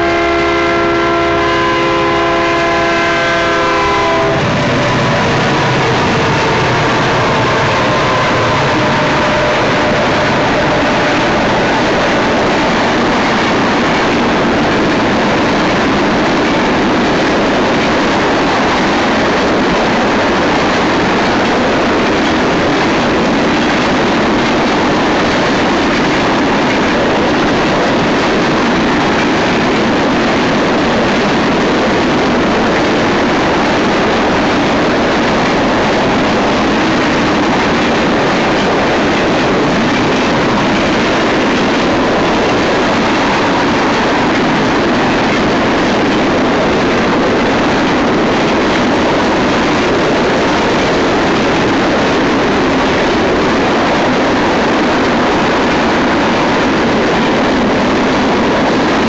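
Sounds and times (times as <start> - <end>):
steel wheels on rail: 0.0 - 59.0.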